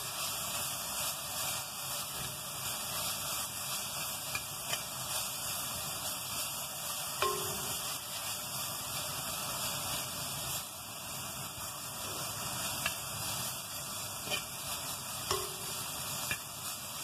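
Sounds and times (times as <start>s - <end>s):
leaves sizzling in oil: 0.0s - 17.0s.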